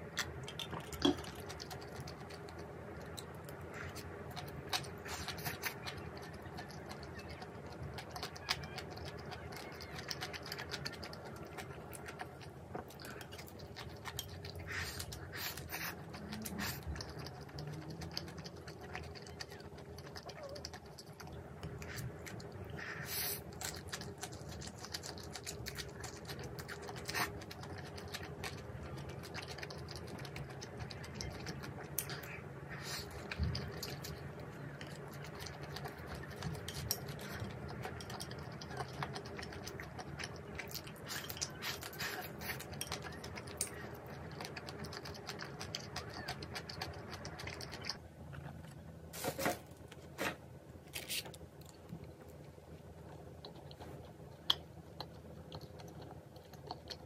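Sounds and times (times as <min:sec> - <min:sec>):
faint steady hum: 0:00.0 - 0:57.0
person chewing: 0:00.0 - 0:57.0.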